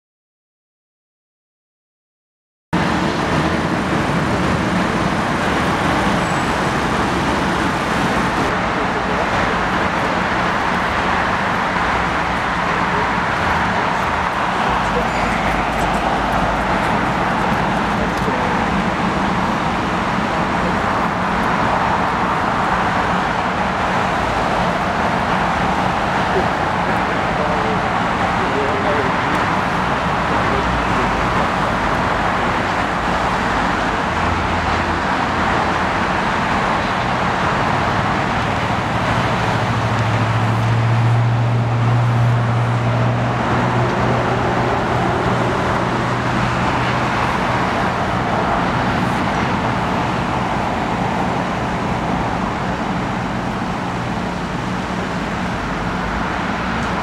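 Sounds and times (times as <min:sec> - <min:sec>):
jetliners taxiing: 0:02.8 - 0:57.0
road vehicles: 0:02.8 - 0:57.0.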